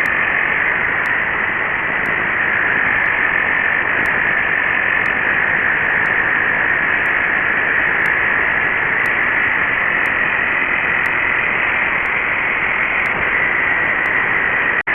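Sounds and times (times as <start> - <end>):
air compressors whining: 0.0 - 14.9.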